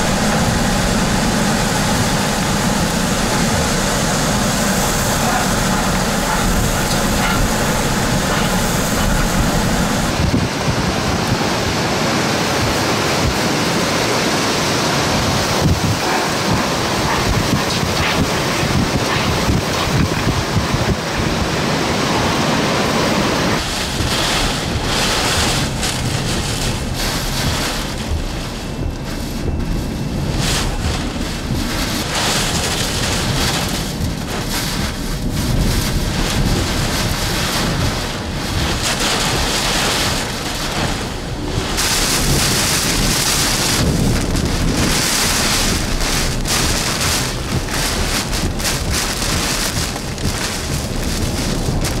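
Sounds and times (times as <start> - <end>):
driving rain: 0.0 - 52.0
strong wind buffeting microphone: 0.0 - 52.0.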